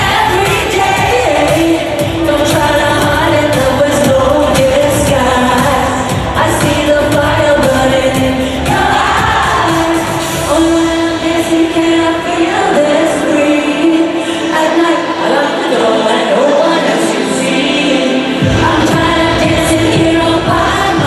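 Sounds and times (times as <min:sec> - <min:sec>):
live pop dance music: 0:00.0 - 0:21.0
person singing: 0:00.0 - 0:21.0.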